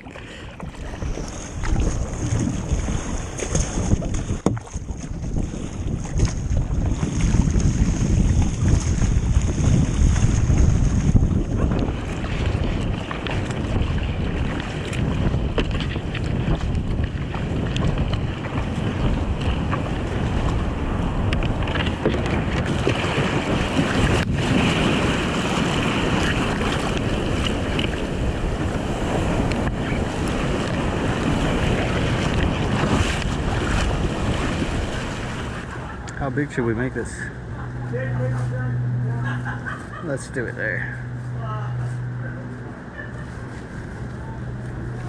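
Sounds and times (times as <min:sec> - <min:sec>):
sea waves washing: 0:00.0 - 0:45.0
wind buffeting microphone: 0:00.0 - 0:45.0.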